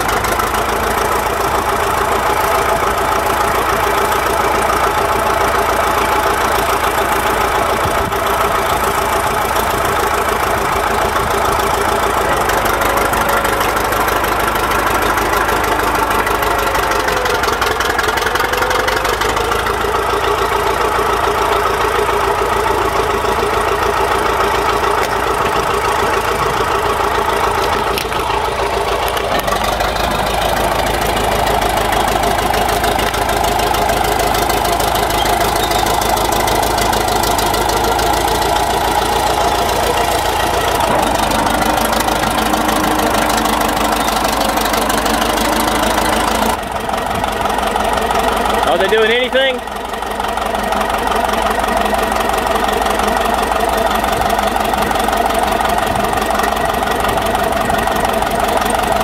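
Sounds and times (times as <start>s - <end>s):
bulldozer diesel engine rumbling: 0.0s - 59.0s.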